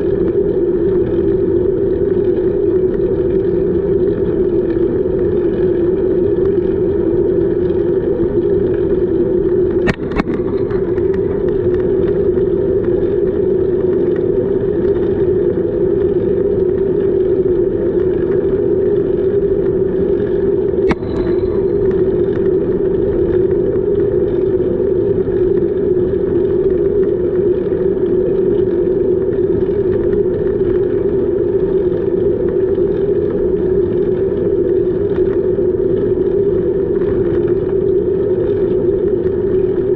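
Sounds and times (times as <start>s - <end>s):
bicycle tyre noise: 0.0s - 39.9s
wind on microphone: 0.0s - 39.9s.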